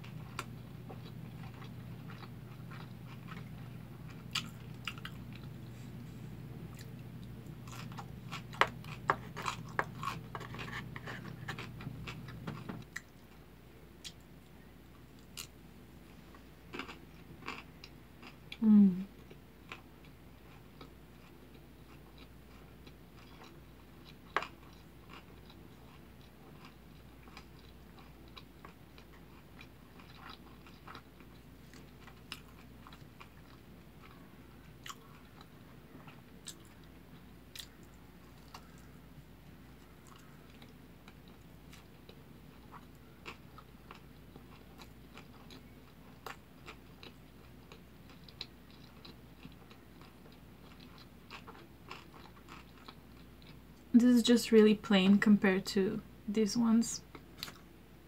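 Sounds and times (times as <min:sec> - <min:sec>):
chewing and biting food: 0:00.0 - 0:13.4, 0:16.3 - 0:18.6, 0:19.2 - 0:53.9, 0:57.1 - 0:57.7.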